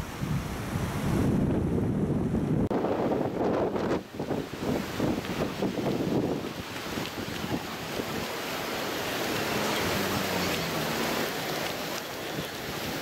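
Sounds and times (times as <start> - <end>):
wind buffeting microphone: 0.0 - 13.0
wind rushing: 0.0 - 13.0.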